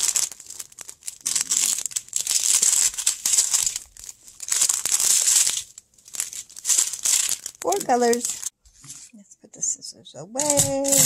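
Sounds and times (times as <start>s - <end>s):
thin plastic bags crinkling: 0.0s - 8.6s, 10.4s - 11.0s.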